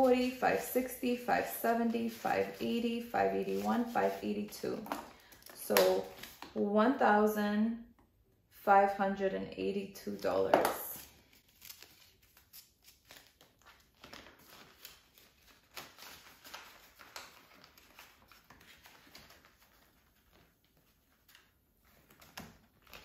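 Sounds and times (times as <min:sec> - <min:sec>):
plastic and paper crinkling: 0:00.0 - 0:06.6, 0:10.9 - 0:23.0.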